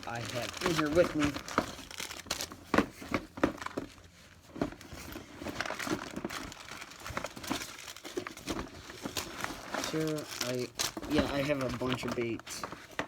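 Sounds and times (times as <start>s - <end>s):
plastic packs crinkling: 0.0s - 13.0s.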